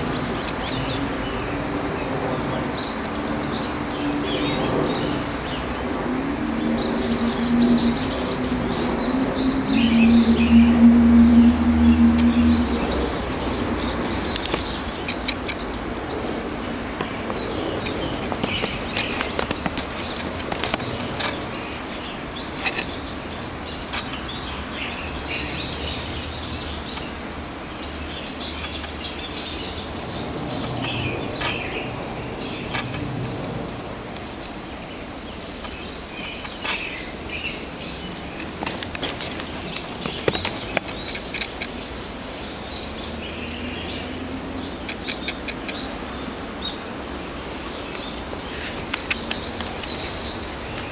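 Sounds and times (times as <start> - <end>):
birds chirping and calling: 0.0 - 50.9.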